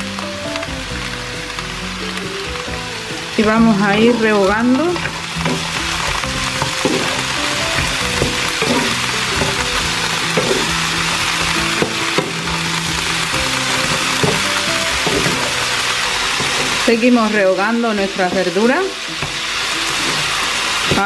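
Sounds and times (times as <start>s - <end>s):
vegetables sizzling in oil: 0.0s - 21.0s
wooden spatula scraping a pan: 3.2s - 17.4s, 18.3s - 21.0s.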